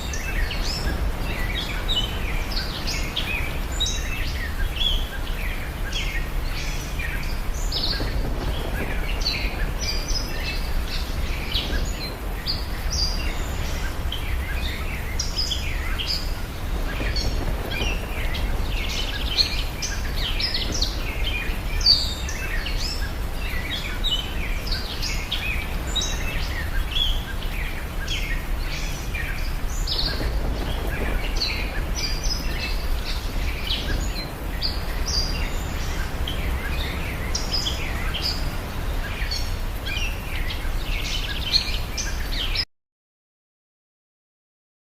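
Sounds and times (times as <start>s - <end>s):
small birds chirping: 0.0s - 42.6s.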